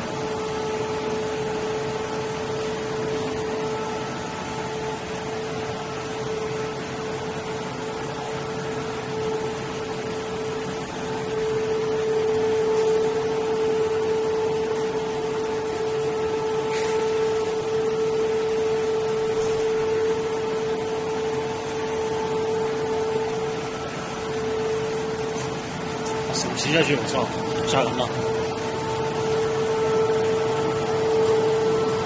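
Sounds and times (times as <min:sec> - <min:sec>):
printing press humming and whining: 0:00.0 - 0:32.0.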